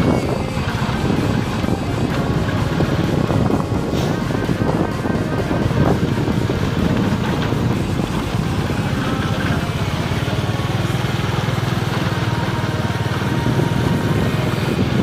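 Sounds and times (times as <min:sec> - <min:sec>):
heavy vehicle engine chugging: 0:00.0 - 0:15.0.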